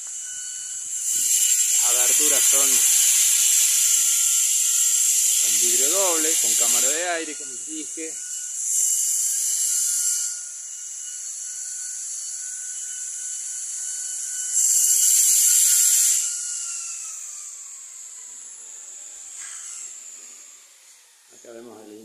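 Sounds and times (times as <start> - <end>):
motor whine winding down: 0.0 - 22.0
power tool hissing: 0.0 - 22.0.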